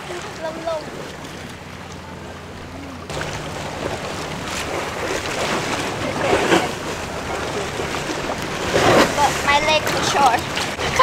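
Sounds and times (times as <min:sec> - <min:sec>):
low steady hum: 0:00.0 - 0:11.0
water splashing around canoe: 0:00.0 - 0:11.0.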